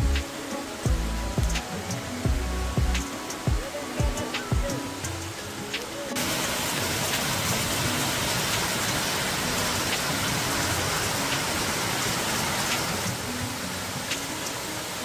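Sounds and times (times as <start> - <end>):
falling rain: 0.0 - 15.0
waterfall rushing over rocks: 0.0 - 15.0.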